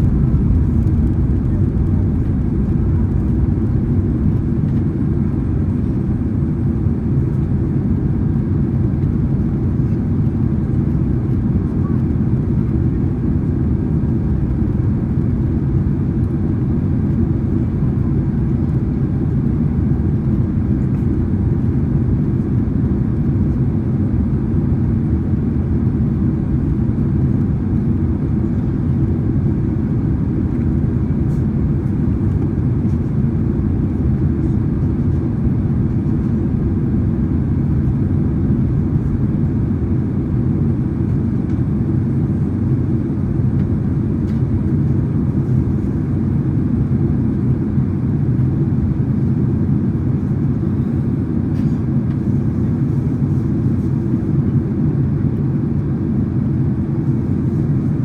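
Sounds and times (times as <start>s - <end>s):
jet engines and airflow rumble: 0.0s - 58.0s.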